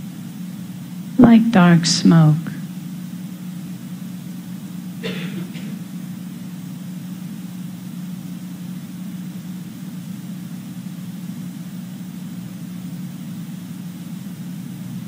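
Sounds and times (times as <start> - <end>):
low hum with faint hiss: 0.0 - 15.0.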